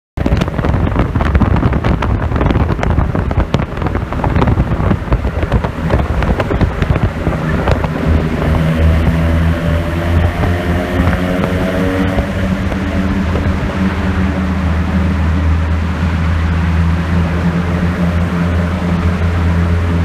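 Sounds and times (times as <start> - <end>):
rotary engine with popping exhaust: 0.2 - 20.0.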